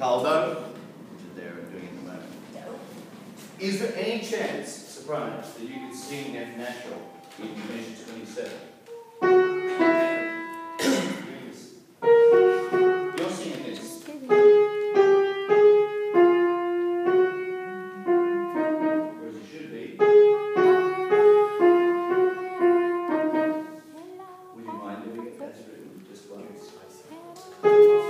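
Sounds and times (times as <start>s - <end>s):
piano melody: 5.1s - 28.0s.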